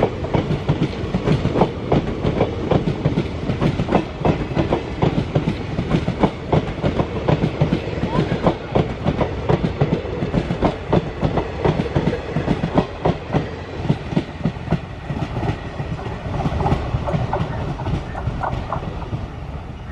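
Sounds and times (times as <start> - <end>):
train wheels clattering on joints: 0.0 - 19.3
train rumble: 0.0 - 19.9.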